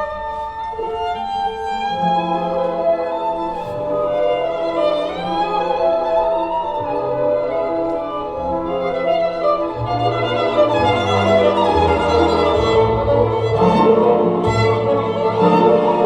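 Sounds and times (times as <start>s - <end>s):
violin music over loudspeakers: 0.0s - 16.0s.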